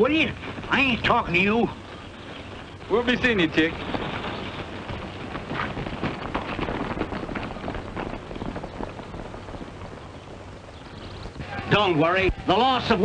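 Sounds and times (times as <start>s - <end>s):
film soundtrack hiss: 0.0s - 13.0s
horse hoofbeats on dirt: 0.0s - 13.0s.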